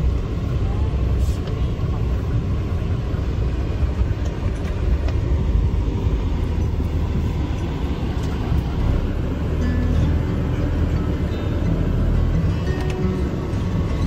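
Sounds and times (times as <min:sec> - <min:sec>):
van engine and road rumble: 0:00.0 - 0:14.0.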